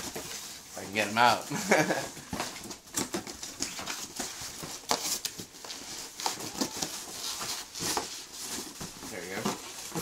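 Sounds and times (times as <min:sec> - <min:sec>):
cardboard box being handled: 0:00.0 - 0:10.0
plastic wrapping crinkling: 0:00.0 - 0:10.0.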